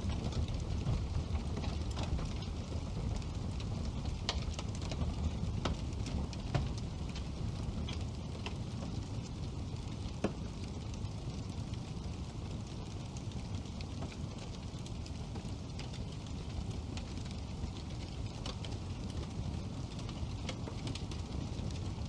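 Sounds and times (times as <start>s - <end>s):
fire burning with crackles and pops: 0.0s - 22.0s.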